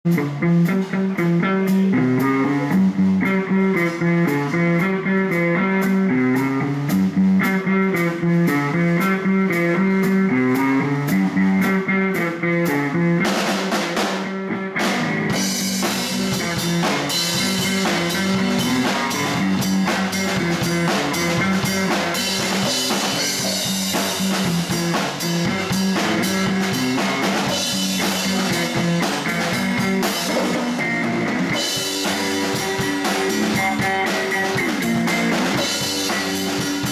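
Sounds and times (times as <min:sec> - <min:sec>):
electric guitar: 0:00.0 - 0:36.9
drum kit cymbals: 0:00.1 - 0:36.9
electric bass walking line: 0:00.1 - 0:36.9.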